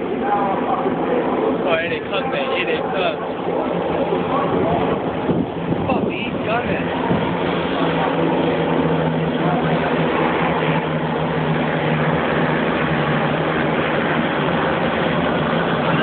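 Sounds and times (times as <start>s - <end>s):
racing engines droning: 0.0s - 16.0s.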